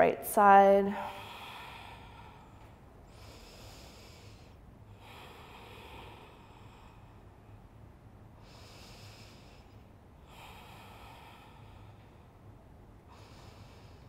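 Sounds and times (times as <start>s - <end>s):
woman breathing through nose: 1.0s - 7.6s, 8.4s - 14.0s.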